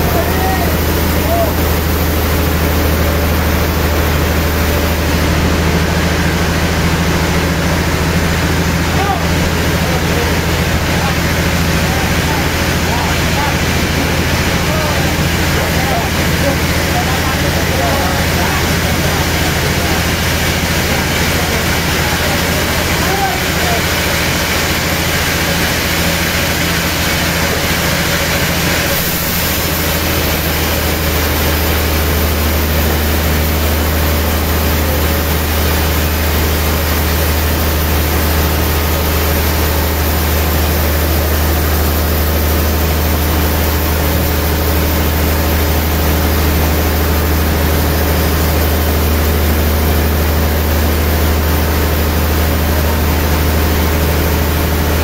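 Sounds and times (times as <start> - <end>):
sawmill band saw hum and whir: 0.0 - 55.0.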